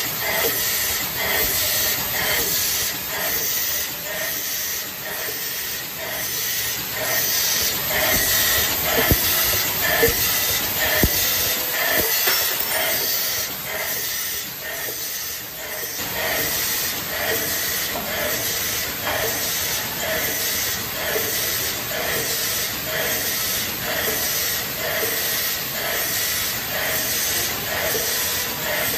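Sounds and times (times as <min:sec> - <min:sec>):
pneumatic air hissing: 0:00.0 - 0:28.9
printing machine running: 0:00.0 - 0:28.9.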